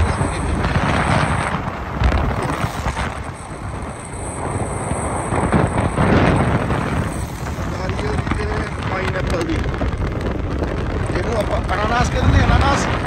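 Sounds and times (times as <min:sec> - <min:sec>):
vehicle travelling on road: 0:00.0 - 0:13.0
wind buffeting microphone: 0:00.0 - 0:13.0.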